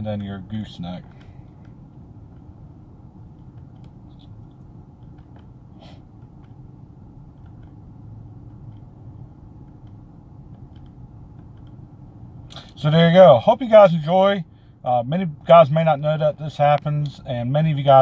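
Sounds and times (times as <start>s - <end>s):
low hum in truck cab: 0.0s - 18.0s.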